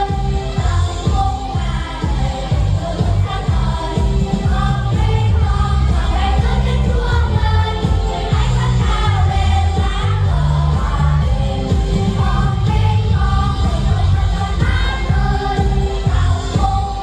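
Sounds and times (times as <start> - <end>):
backing track with bass beat: 0.0 - 17.0
children singing together: 0.0 - 17.0.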